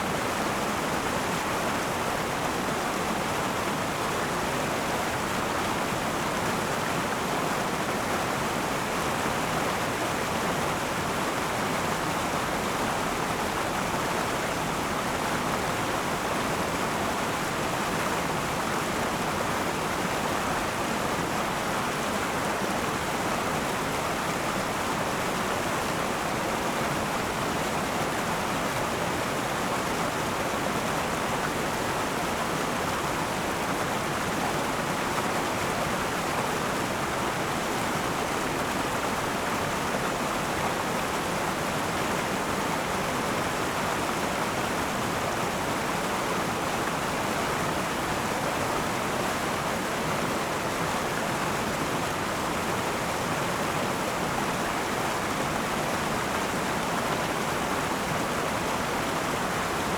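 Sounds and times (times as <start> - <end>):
river rushing and burbling: 0.0 - 59.9.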